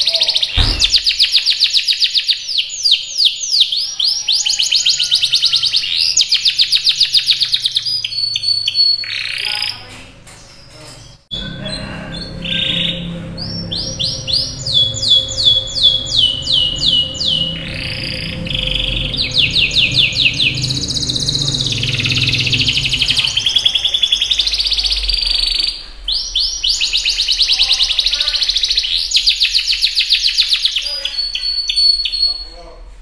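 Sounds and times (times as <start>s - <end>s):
canary singing trills: 0.0s - 32.7s.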